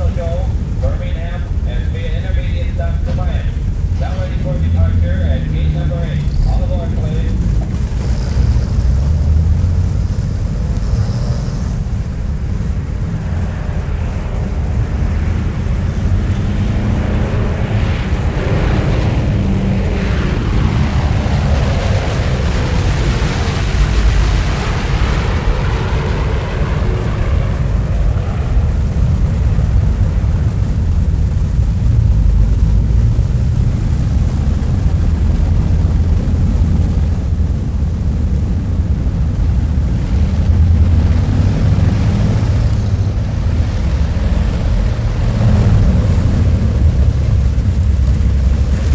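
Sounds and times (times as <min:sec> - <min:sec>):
aircraft passing by: 0:00.0 - 0:48.9
airplane engines rumbling: 0:00.0 - 0:48.9.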